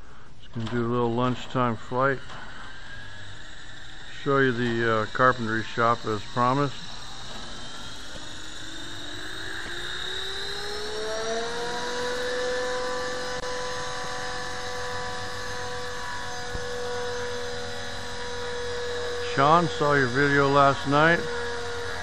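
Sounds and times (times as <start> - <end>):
model aircraft motor whine: 0.0 - 22.0.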